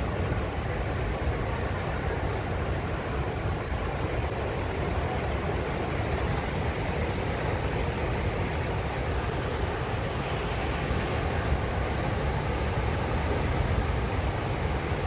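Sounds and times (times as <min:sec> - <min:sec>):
ocean surf breaking ashore: 0:00.0 - 0:15.0.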